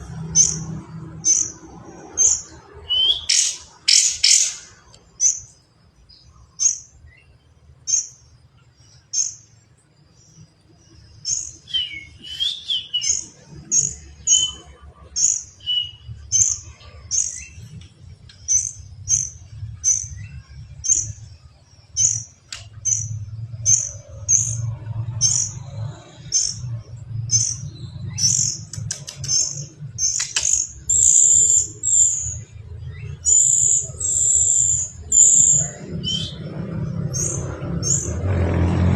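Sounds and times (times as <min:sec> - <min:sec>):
songbird high chirps: 0:00.1 - 0:38.3.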